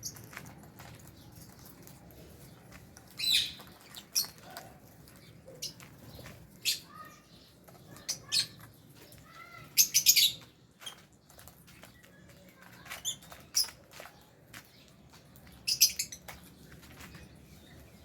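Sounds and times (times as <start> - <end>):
lovebirds chirping: 0.0 - 18.0.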